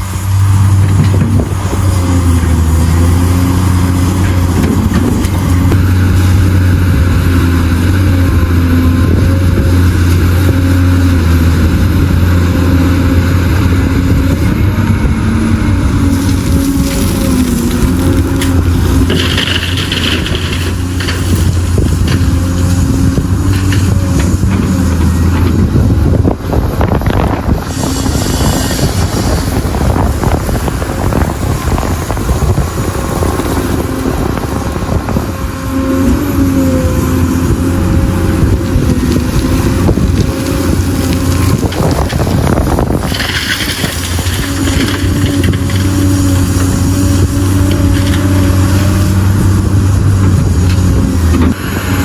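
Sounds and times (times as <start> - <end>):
heavy machinery engine hum: 0.0 - 52.0.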